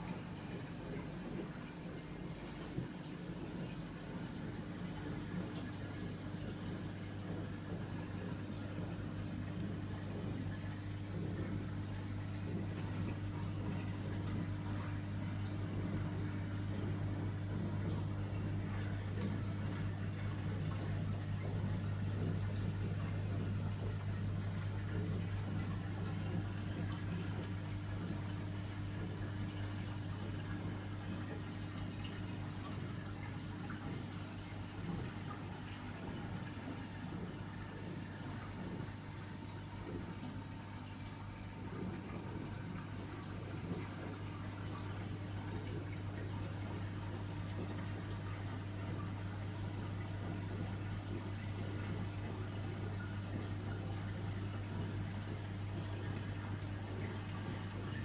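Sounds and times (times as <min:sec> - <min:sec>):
steady low hum: 0:00.0 - 0:58.0
water trickling and dripping: 0:00.0 - 0:58.0.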